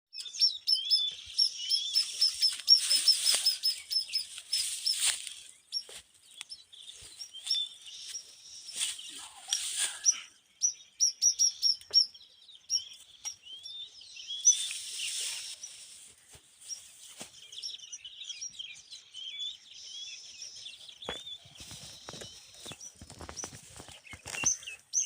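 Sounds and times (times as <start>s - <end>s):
nestling birds chirping: 0.1s - 25.0s.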